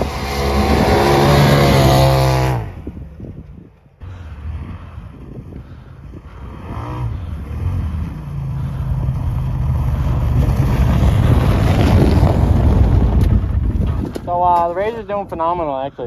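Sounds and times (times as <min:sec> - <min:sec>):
engine running: 0:00.0 - 0:03.1, 0:04.0 - 0:14.2.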